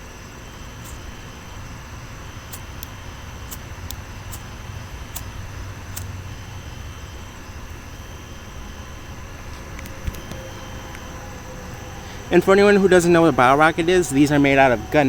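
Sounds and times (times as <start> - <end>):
outdoor low rumble: 0.0 - 15.0.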